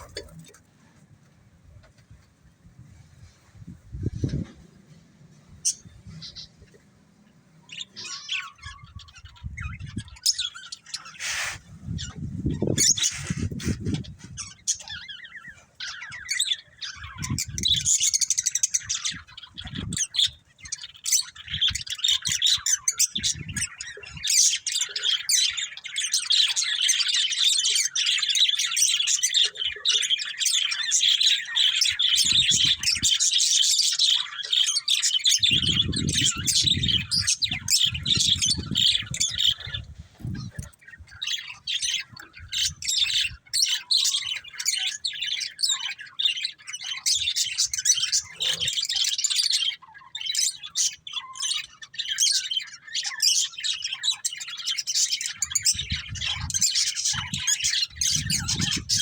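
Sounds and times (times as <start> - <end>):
budgerigars chirping and chattering: 0.0 - 0.6, 5.5 - 59.0.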